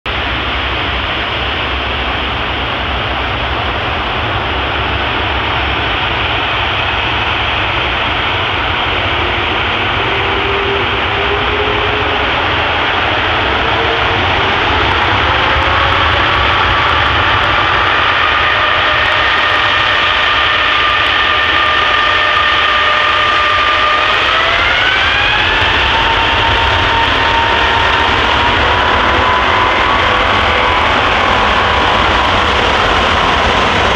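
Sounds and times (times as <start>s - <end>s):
jet engine whine rising: 0.1s - 33.9s
jet engines rushing: 0.1s - 33.9s.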